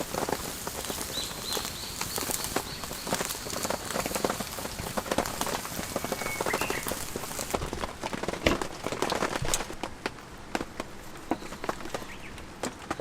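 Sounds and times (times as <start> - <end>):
heavy rain on a tent: 0.0 - 13.0.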